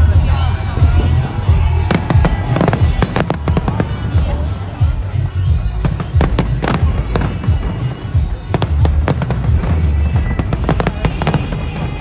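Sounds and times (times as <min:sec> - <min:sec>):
fireworks banging: 0:00.0 - 0:12.0
music playing: 0:00.0 - 0:12.0.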